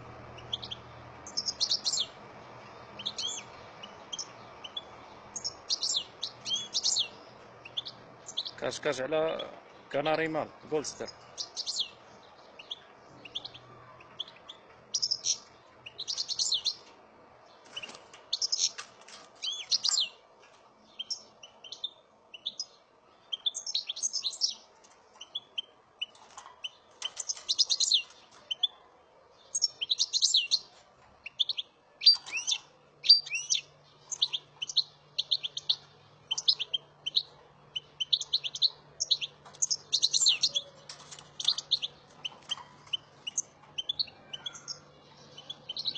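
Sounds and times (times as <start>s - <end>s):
goldfinch singing: 0.0s - 16.9s, 17.5s - 20.2s, 20.8s - 28.8s, 29.4s - 45.9s.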